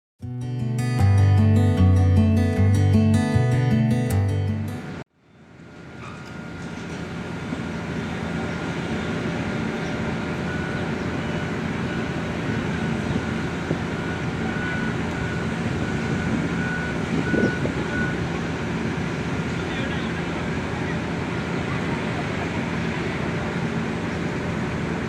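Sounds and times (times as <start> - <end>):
diesel machinery running: 0.2 - 5.0, 5.6 - 25.0.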